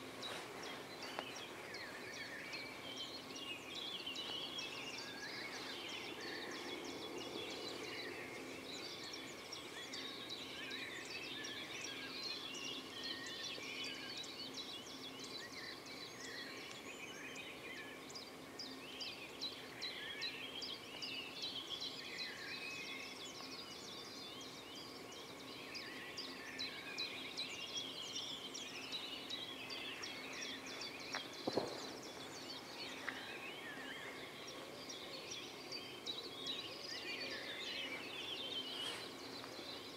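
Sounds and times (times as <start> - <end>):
faint steady hum: 0.0 - 39.9
small birds chirping: 0.0 - 39.9.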